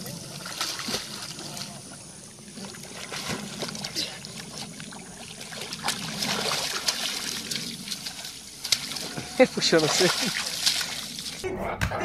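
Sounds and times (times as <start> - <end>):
water splashing and sloshing: 0.0 - 11.5.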